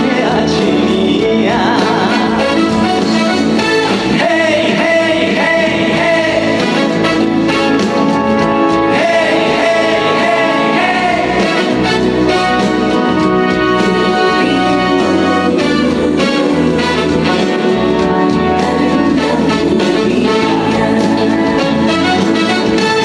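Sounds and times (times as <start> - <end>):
instrumental band music: 0.0 - 23.0.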